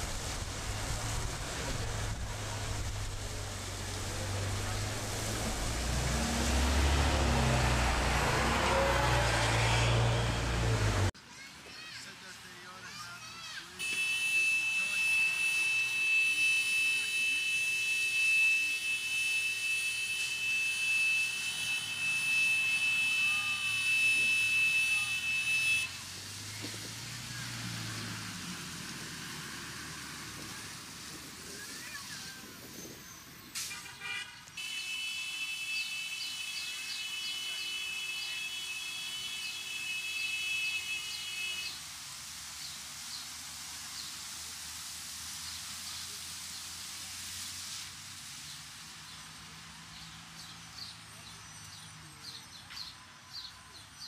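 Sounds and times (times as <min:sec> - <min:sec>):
water spraying from fire hydrant: 0:00.0 - 0:54.0.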